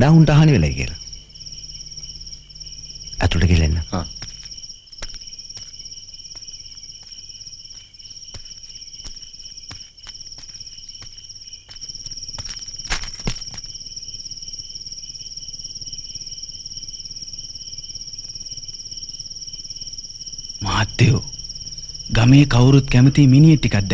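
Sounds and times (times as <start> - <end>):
crickets chirping: 0.0 - 23.9.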